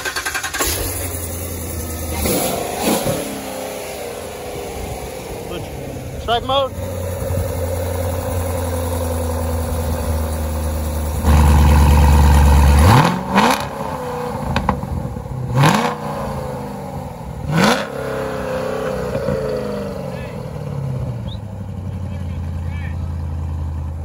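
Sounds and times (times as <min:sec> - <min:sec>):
car engine exhaust revving: 0:00.0 - 0:24.0
car exhaust running steadily: 0:00.8 - 0:24.0.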